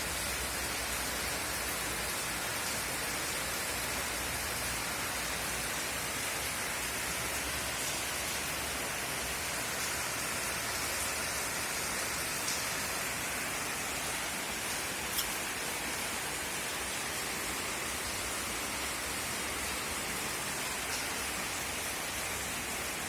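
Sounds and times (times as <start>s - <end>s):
steady rainfall hiss: 0.0s - 23.0s.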